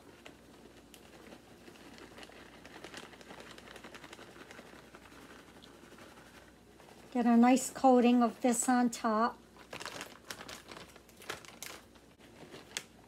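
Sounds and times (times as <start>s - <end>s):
plastic bag crinkling: 0.0s - 7.3s, 9.3s - 13.0s
shredded cheese pattering: 0.0s - 8.4s, 9.4s - 13.0s.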